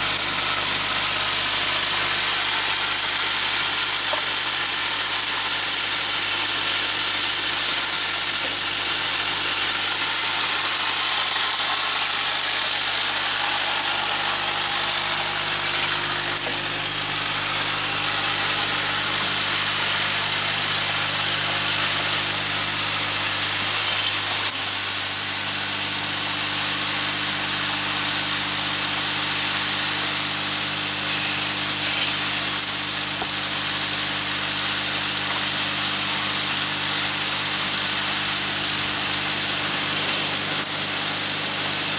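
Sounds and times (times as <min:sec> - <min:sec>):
grinder motor hum: 0:00.0 - 0:41.9
grinding wheel hiss: 0:00.0 - 0:41.9.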